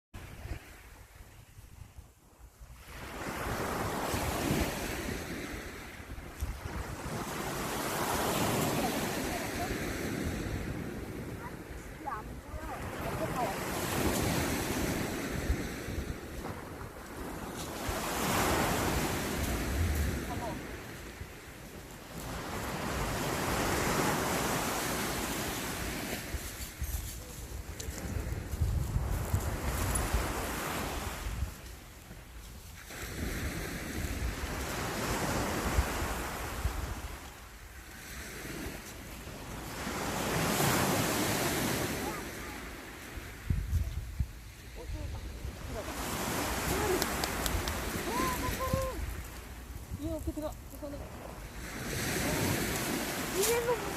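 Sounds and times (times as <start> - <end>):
wind rumbling on microphone: 0.2 - 37.8, 43.1 - 53.9
sea surf washing onto beach: 2.8 - 53.9.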